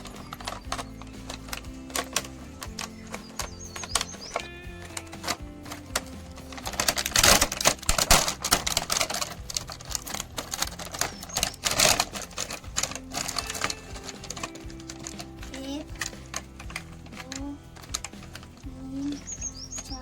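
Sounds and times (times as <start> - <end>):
background music: 0.0 - 20.0
plastic toy cars clicking: 0.0 - 20.0.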